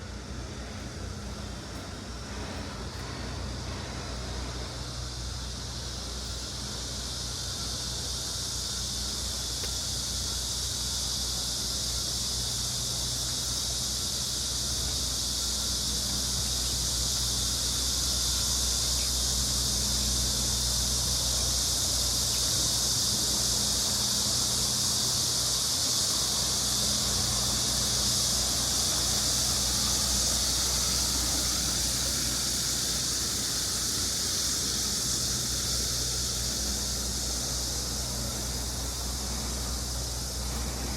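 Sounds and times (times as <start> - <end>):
high hiss: 0.0 - 40.9.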